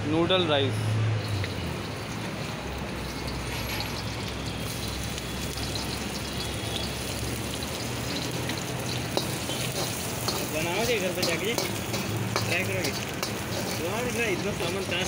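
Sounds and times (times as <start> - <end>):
garlic sizzling in hot oil: 1.2 - 15.0.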